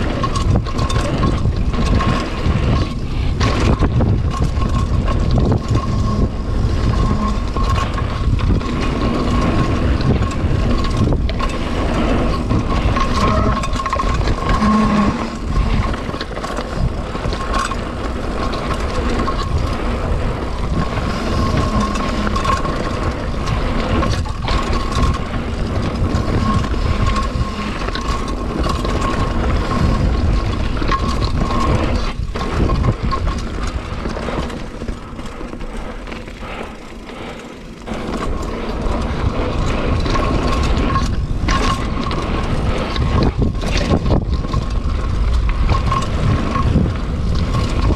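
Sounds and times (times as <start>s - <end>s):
bike knocking and rattling: 0.0s - 47.9s
tyres on dirt: 0.0s - 47.9s
wind buffeting microphone: 0.0s - 47.9s.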